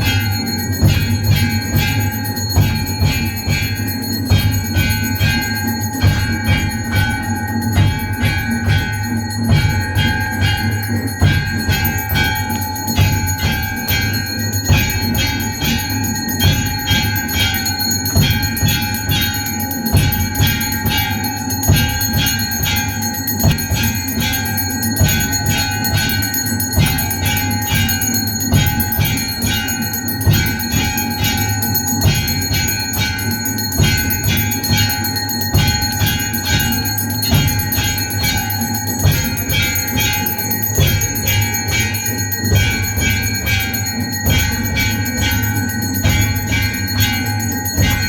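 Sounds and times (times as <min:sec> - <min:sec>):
rhythmic low thumps: 0:00.0 - 0:48.0
temple bells clanging: 0:00.0 - 0:48.0.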